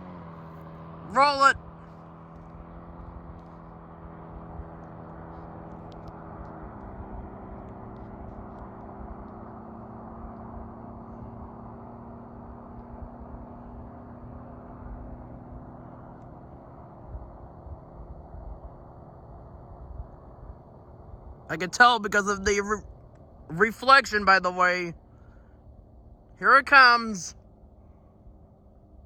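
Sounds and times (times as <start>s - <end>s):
engine hum with low drone: 0.0s - 29.0s.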